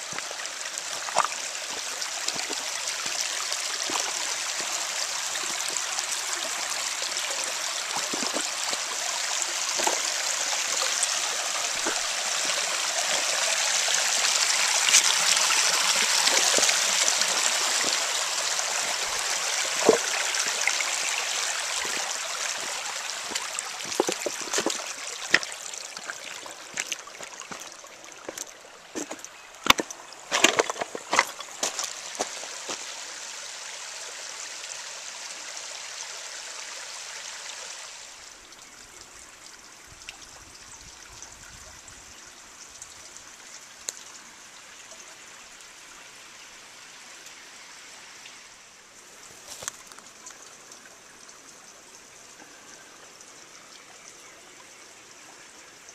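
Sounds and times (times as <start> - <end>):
creek water trickling over rocks: 0.0 - 55.9.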